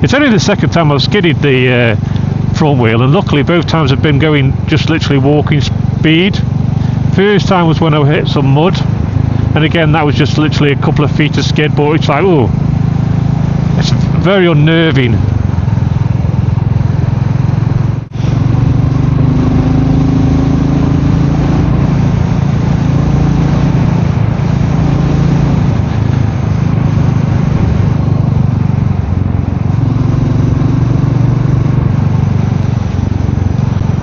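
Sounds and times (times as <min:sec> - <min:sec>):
motorcycle engine running: 0:00.0 - 0:34.0
wind and road noise: 0:00.0 - 0:34.0.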